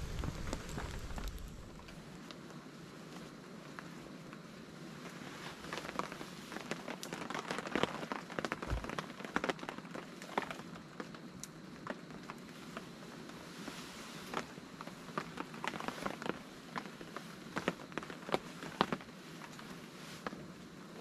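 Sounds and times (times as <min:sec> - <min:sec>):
rain drumming on a tarp: 0:00.0 - 0:21.0.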